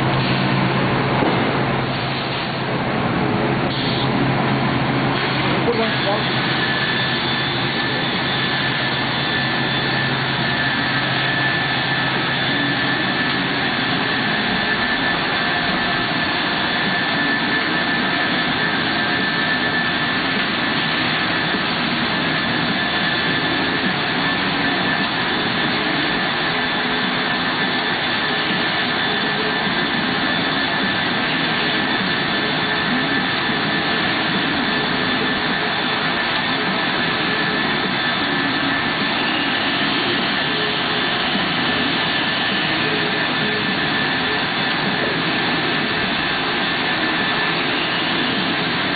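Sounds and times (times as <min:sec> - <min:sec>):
steady high whine: 0:00.0 - 0:48.9.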